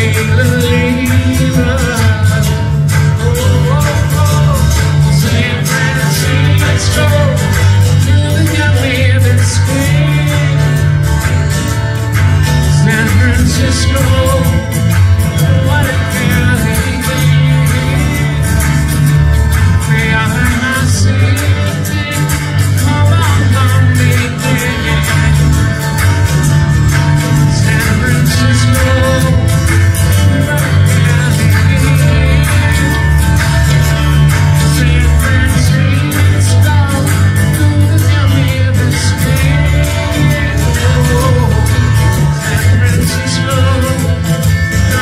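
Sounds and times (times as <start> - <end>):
man singing with guitar: 0.0 - 45.0
steady beat and heavy bass: 0.0 - 45.0.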